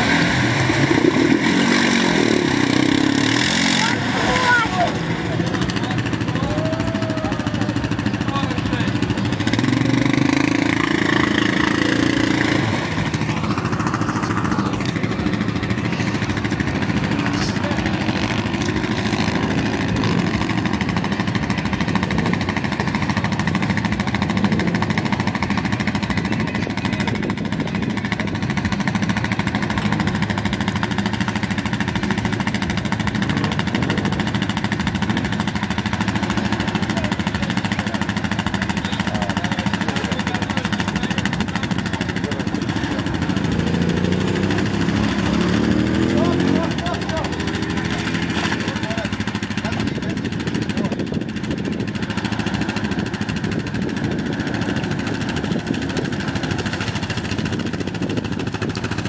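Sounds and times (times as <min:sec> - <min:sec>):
quad bike engines running: 0:00.0 - 0:59.0.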